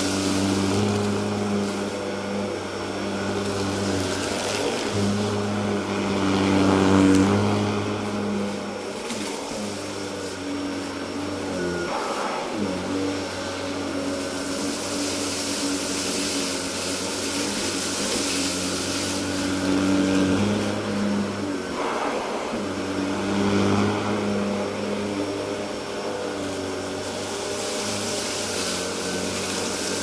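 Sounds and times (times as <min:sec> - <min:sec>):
rushing hiss of air: 0:00.0 - 0:30.0
vacuum cleaner motor hum: 0:00.0 - 0:30.0.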